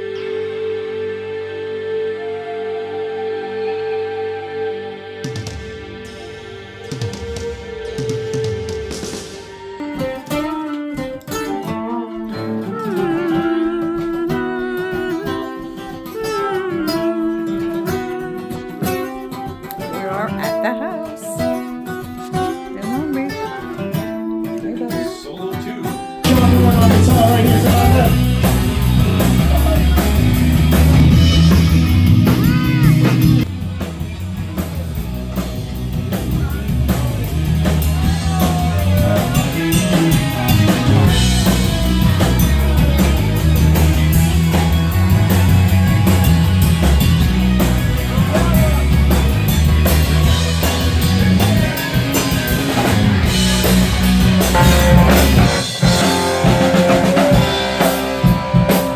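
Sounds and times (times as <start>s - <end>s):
live rock band playing: 4.1s - 58.9s.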